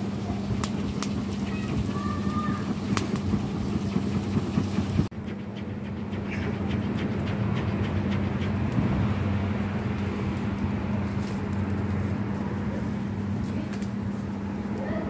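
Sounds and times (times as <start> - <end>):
wood fire crackling: 0.0 - 14.9
continuous noise wash: 0.0 - 15.0
steady low hum: 0.0 - 15.0.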